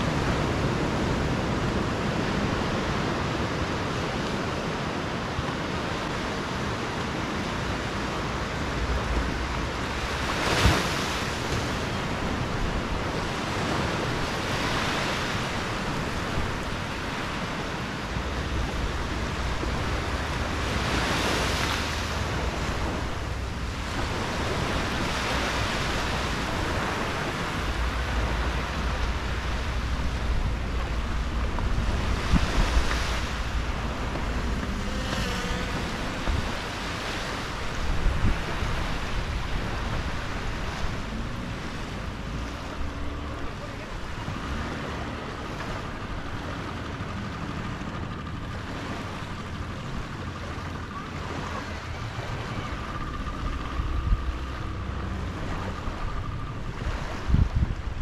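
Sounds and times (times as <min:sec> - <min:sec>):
low steady rumble: 0:00.0 - 0:58.0
small waves washing onto beach: 0:00.0 - 0:58.0.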